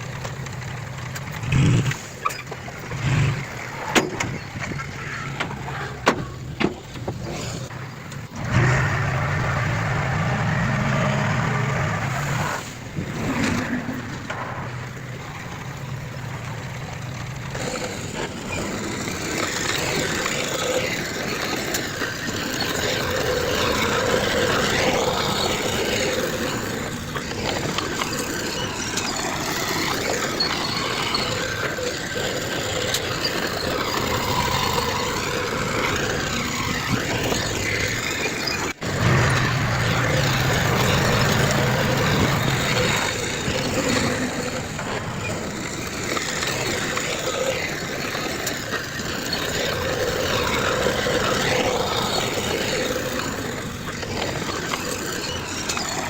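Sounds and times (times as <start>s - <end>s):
heavy machinery diesel engines: 0.0s - 56.0s
low engine drone: 0.0s - 56.0s.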